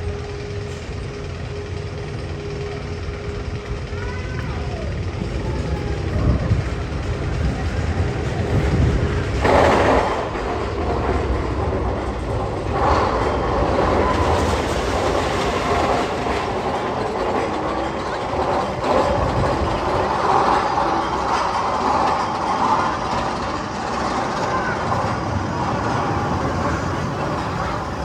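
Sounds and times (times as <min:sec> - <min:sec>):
roller coaster train rumbling: 0:00.0 - 0:28.0.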